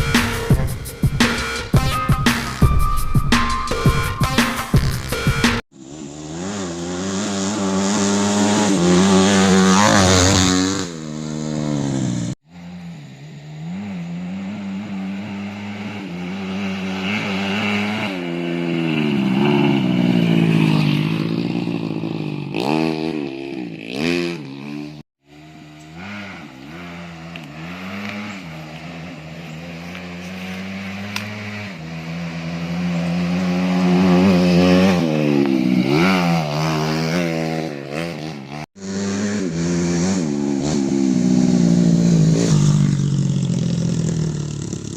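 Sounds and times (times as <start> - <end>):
motorcycle engine revving: 4.2 - 44.9.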